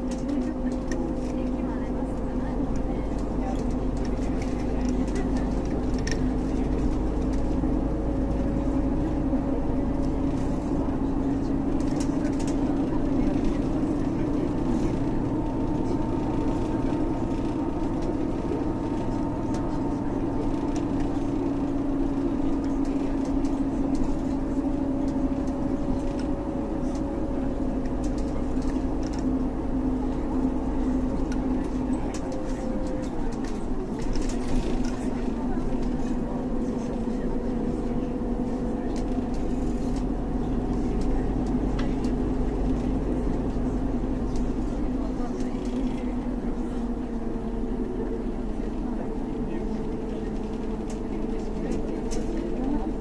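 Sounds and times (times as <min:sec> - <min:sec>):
bus engine hum from inside: 0:00.0 - 0:53.0.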